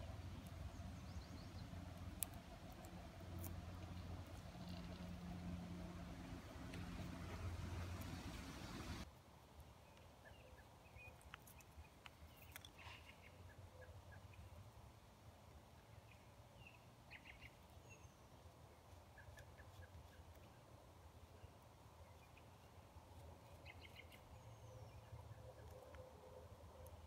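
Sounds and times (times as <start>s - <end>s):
small birds chirping faintly: 0.0s - 27.0s.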